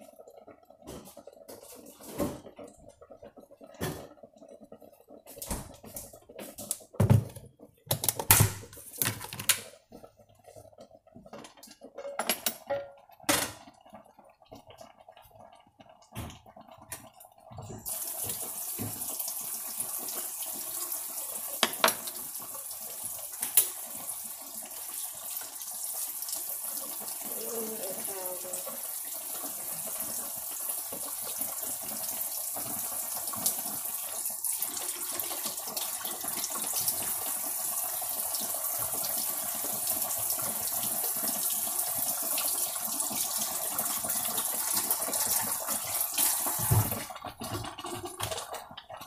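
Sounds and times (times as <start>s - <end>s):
tap water running into sink: 0.0s - 15.0s, 15.9s - 49.0s.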